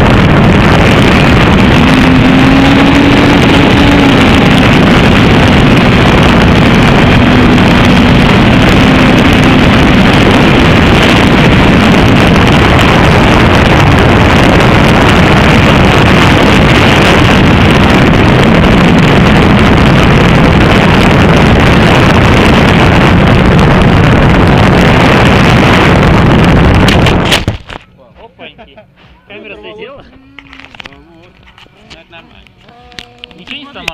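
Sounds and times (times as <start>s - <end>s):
drone propellers whirring: 0.0s - 27.5s
wind on microphone: 0.0s - 27.8s.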